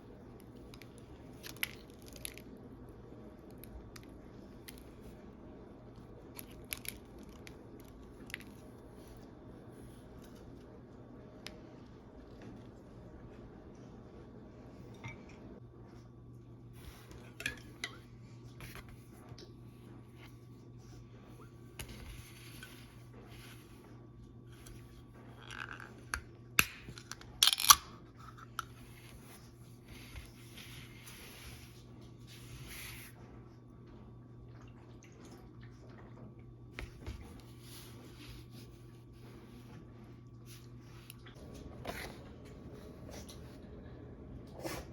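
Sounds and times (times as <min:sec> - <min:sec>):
low background hum: 0:00.0 - 0:44.9.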